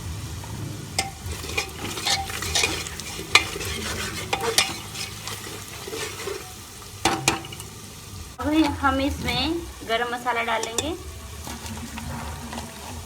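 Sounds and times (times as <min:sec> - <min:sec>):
onions sizzling in oil: 0:00.0 - 0:13.0
utensil scraping pot: 0:00.0 - 0:13.0.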